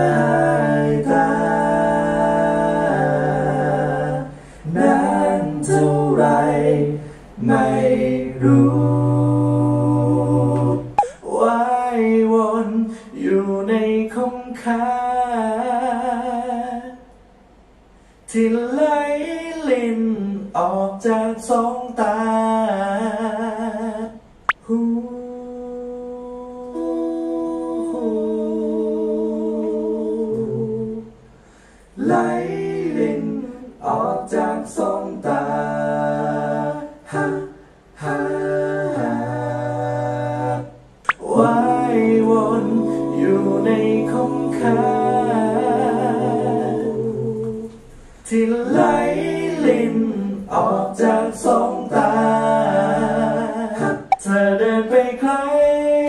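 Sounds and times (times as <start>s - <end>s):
a cappella vocal harmony: 0.0s - 56.0s.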